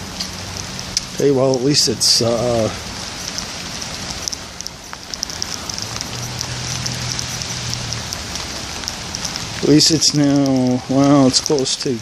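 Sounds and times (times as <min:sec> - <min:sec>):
raindrop ticks: 0:00.0 - 0:12.0
steady rain hissing: 0:00.0 - 0:12.0.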